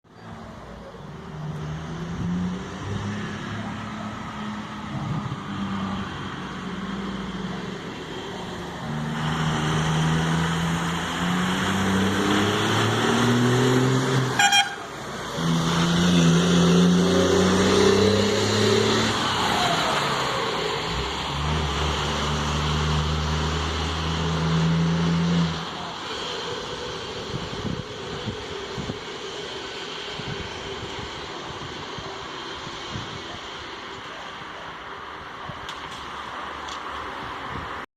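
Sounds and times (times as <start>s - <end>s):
diesel truck engine rumbling: 0.1s - 37.7s.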